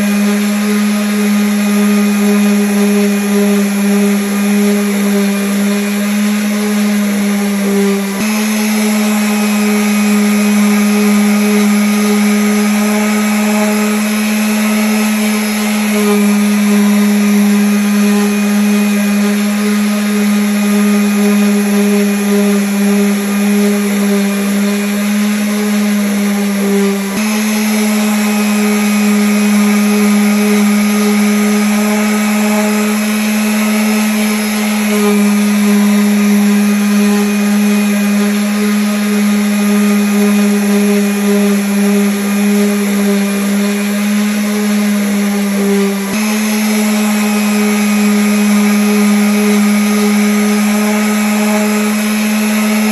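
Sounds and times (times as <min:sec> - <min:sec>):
electric sander on wood: 0:00.0 - 0:52.9.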